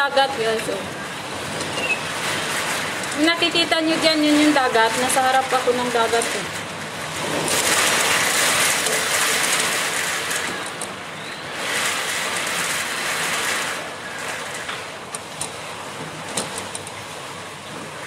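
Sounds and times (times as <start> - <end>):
heavy surf against a seawall: 0.0 - 18.0.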